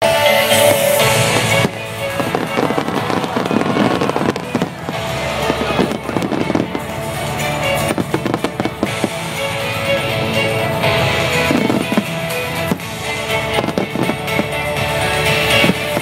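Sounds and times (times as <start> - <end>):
fireworks bursting and crackling: 0.0 - 16.0
music playing: 0.0 - 16.0.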